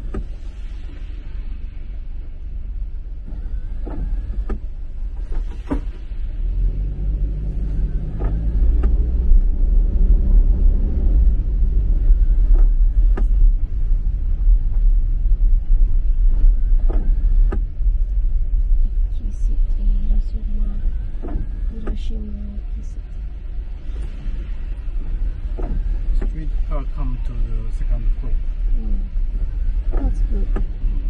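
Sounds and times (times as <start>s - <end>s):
car engine and tyre rumble: 0.0s - 31.0s
windscreen wiper sweeping: 0.0s - 31.0s.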